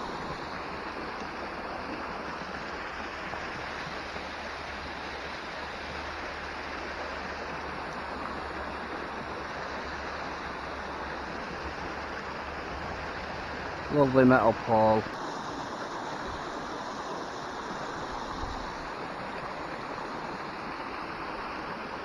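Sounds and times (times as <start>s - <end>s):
water gushing and splashing: 0.0s - 22.0s.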